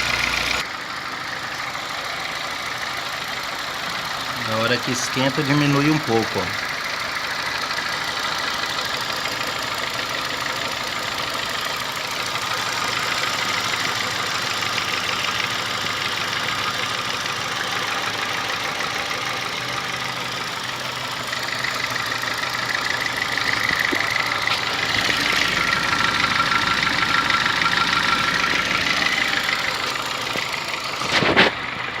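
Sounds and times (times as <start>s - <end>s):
car engine idling with clattering: 0.0s - 32.0s.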